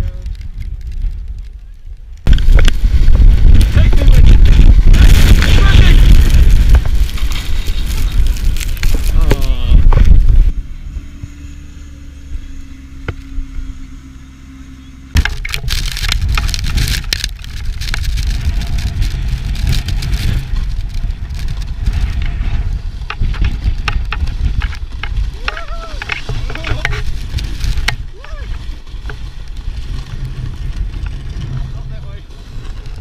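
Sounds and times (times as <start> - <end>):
wind buffeting microphone: 0.0 - 11.4, 15.2 - 33.0
snowboard scraping over snow: 2.2 - 11.3, 15.2 - 33.0.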